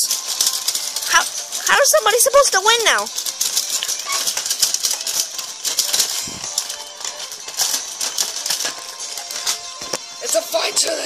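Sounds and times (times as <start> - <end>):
plastic toy robots clattering: 0.0 - 10.8.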